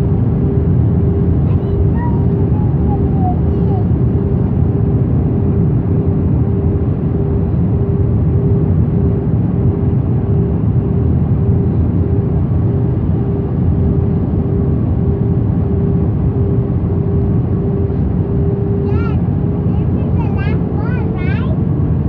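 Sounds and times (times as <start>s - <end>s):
jet engines and airflow roar: 0.0s - 22.0s
pulsing humming tone: 0.0s - 22.0s.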